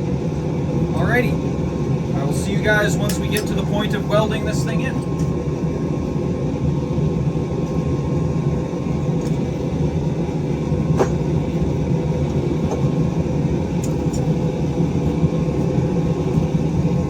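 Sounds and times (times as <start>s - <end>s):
forge low rumble: 0.0s - 17.0s.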